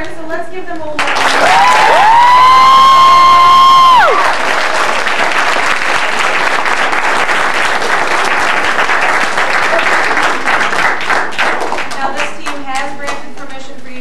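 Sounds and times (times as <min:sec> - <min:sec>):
audience applauding: 0:01.0 - 0:12.6.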